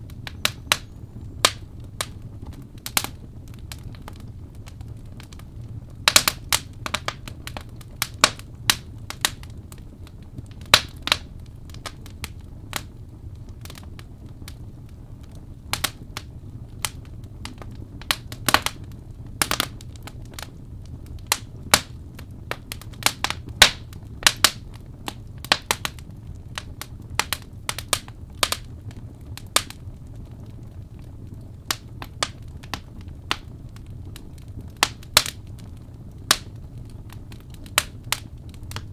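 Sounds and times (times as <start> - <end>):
fire low rumble: 0.0 - 38.9
fire pops and snaps: 0.0 - 38.9.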